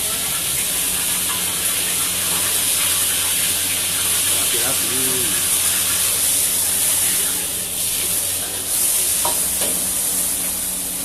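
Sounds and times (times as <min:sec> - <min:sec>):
gas burner running: 0:00.0 - 0:11.0
noodles sizzling in a wok: 0:00.0 - 0:11.0.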